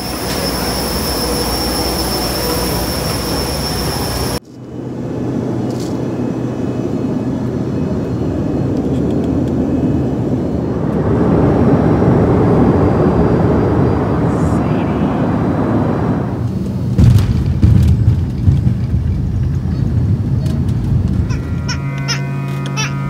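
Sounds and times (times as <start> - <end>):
airliner cabin roar: 0.0 - 23.0
jet engines whining: 0.0 - 23.0.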